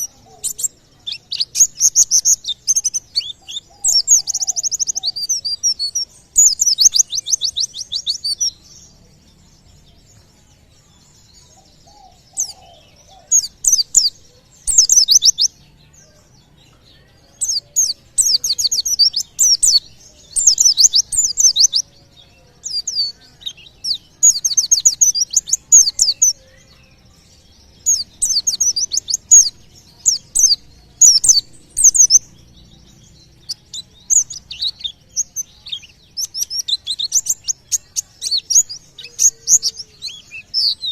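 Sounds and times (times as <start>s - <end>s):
bird singing chattering bursts: 0.0s - 15.9s, 17.3s - 40.9s.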